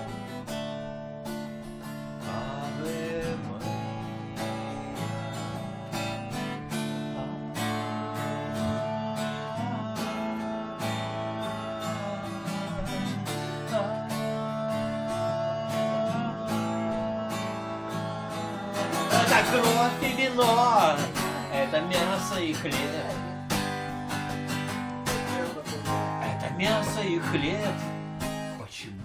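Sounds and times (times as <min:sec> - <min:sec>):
acoustic guitar strumming: 0:00.0 - 0:29.0
person singing wordless notes: 0:02.1 - 0:06.5, 0:07.2 - 0:23.5, 0:25.1 - 0:28.0.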